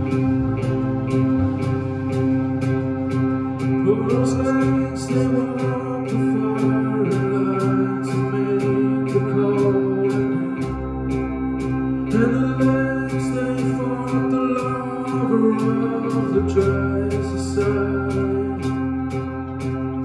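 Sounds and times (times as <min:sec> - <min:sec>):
electric guitars sustained chords: 0:00.0 - 0:20.0
low bass line: 0:00.0 - 0:20.0
person singing: 0:00.0 - 0:20.0.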